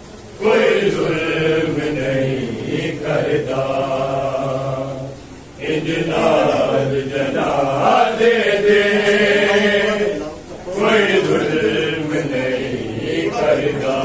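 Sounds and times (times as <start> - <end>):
men chanting a lament: 0.4 - 14.0.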